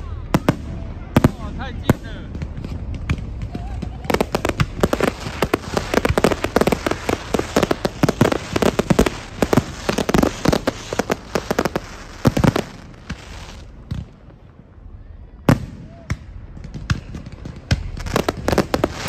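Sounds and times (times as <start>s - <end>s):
fireworks crackling: 0.0s - 14.8s, 15.5s - 19.0s.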